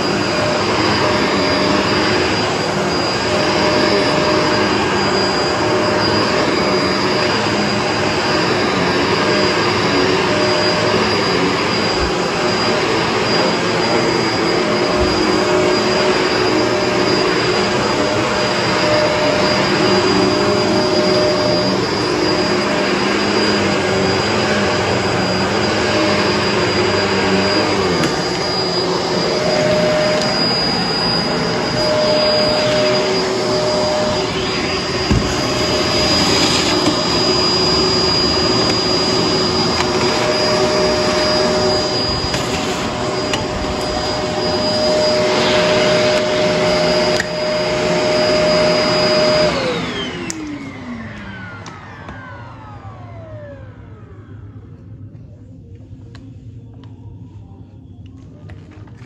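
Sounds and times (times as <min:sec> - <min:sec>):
vacuum cleaner motor whine: 0:00.0 - 0:59.0.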